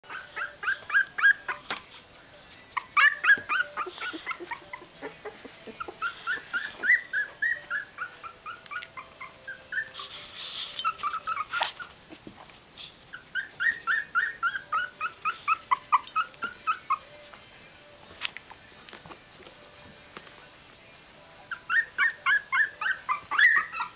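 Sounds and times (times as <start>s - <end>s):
puppies squealing and whimpering: 0.0s - 17.5s, 21.4s - 23.9s.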